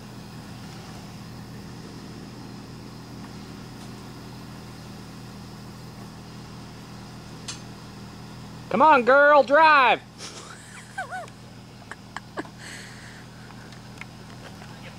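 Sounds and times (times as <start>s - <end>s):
vehicle engine running at low revs: 0.0s - 14.9s.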